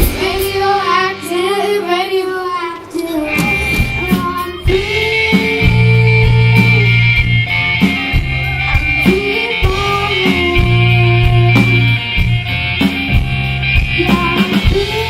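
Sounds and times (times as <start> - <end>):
person singing: 0.0 - 12.2, 13.8 - 15.0
bass guitar: 0.0 - 15.0
drum kit beat: 0.0 - 15.0
electric guitar: 0.0 - 15.0.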